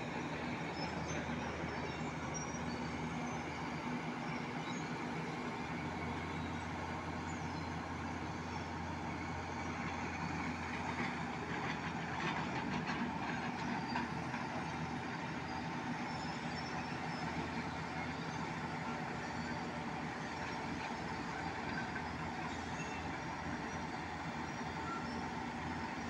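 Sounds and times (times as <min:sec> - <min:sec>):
diesel crane engines running: 0:00.0 - 0:26.0.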